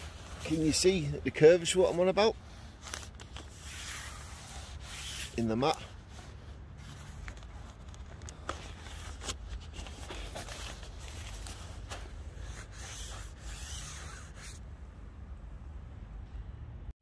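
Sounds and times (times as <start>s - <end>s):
air pad fabric rubbing and crinkling: 0.0s - 14.6s.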